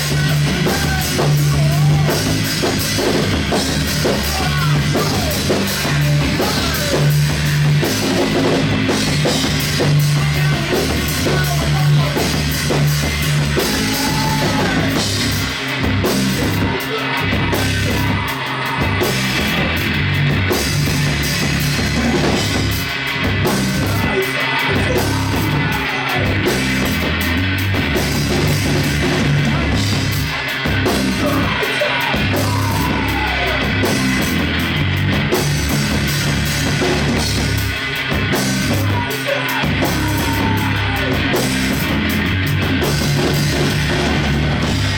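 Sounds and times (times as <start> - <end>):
bass guitar: 0.0 - 44.9
drum kit: 0.0 - 44.9
electric guitars: 0.0 - 44.9.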